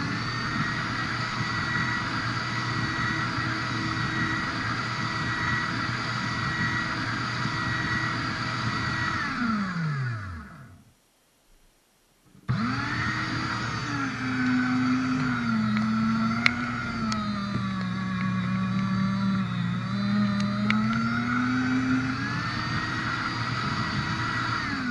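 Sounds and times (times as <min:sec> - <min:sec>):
shredder motor whining: 0:00.0 - 0:10.8, 0:12.4 - 0:24.9.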